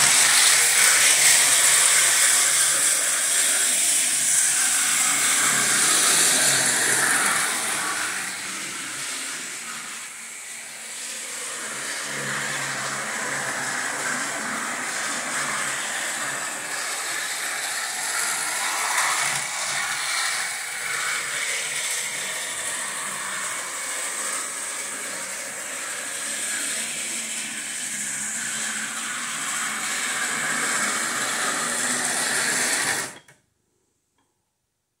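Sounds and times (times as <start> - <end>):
model trains whirring and rattling: 0.0 - 33.3.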